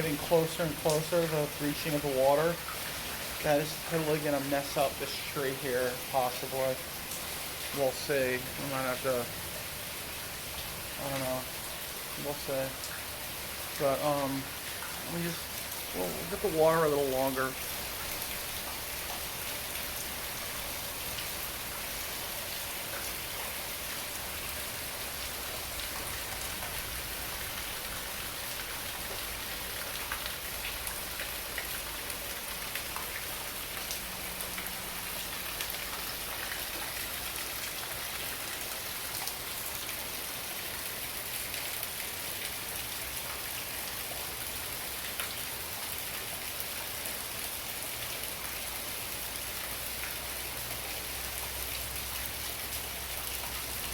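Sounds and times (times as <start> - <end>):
heavy rain pattering: 0.0 - 43.8
water dripping: 0.0 - 47.4, 48.1 - 53.9.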